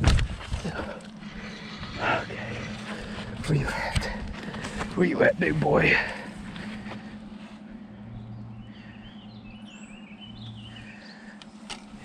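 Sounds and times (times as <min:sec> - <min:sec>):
low steady hum: 0:00.0 - 0:12.0
outdoor background noise: 0:00.0 - 0:12.0
birds chirping: 0:00.7 - 0:12.0.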